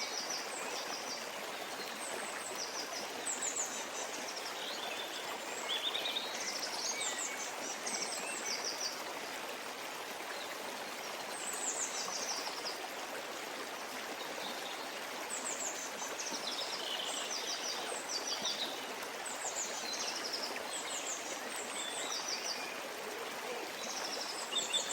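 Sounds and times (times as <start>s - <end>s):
brook babbling: 0.0s - 24.9s.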